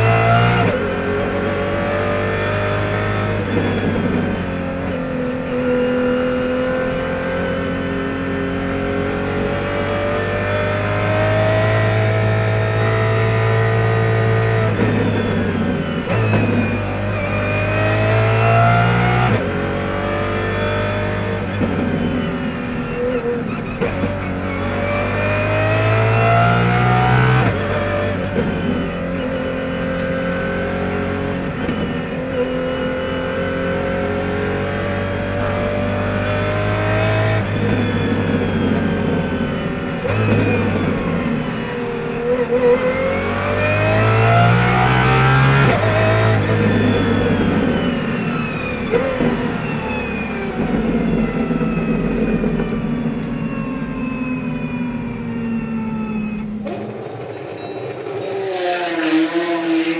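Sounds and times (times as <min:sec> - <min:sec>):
car engine revving hard: 0:00.0 - 0:54.1, 0:58.3 - 0:59.9.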